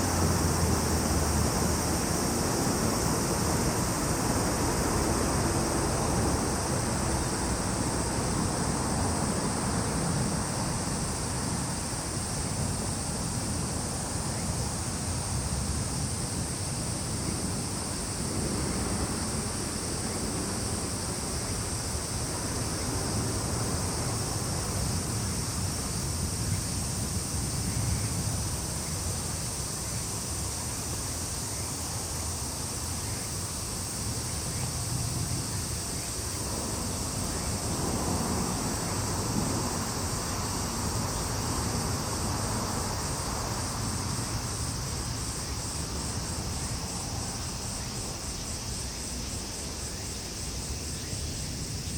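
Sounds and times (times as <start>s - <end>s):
insects chirping: 0.0s - 51.9s
rapidly pulsing insect call: 0.0s - 51.9s
wind rumbling on microphone: 0.0s - 51.9s.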